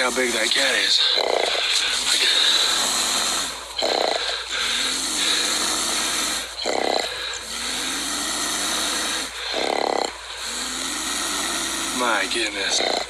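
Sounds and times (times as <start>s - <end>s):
bobcat growling and hissing: 0.0s - 13.0s.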